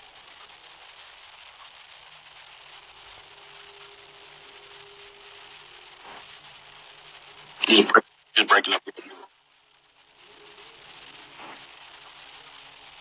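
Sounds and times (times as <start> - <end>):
faint static hiss: 0.0 - 13.0
thin steady tone: 0.4 - 13.0.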